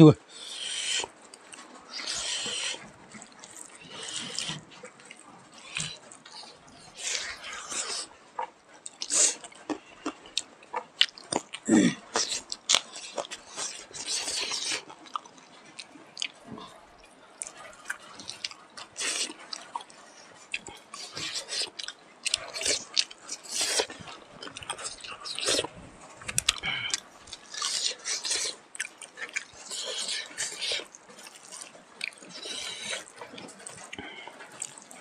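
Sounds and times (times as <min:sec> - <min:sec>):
people chewing and lip-smacking: 0:00.3 - 0:35.0.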